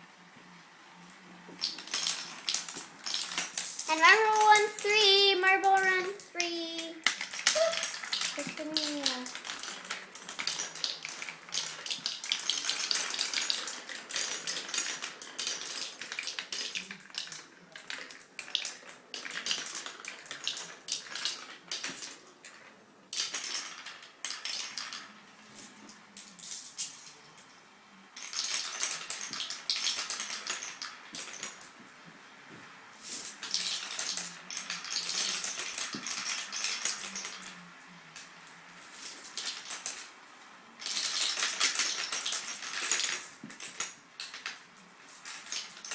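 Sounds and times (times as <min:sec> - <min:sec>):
marbles rolling down wooden run: 0:01.2 - 0:31.8, 0:32.9 - 0:45.9.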